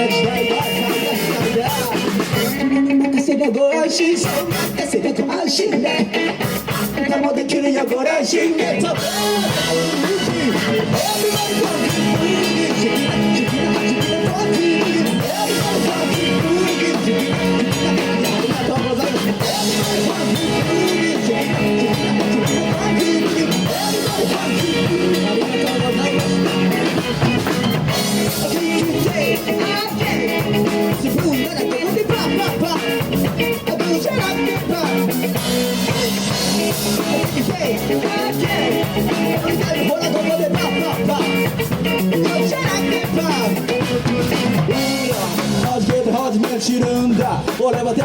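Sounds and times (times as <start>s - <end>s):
live band drums and guitar: 0.0s - 48.0s.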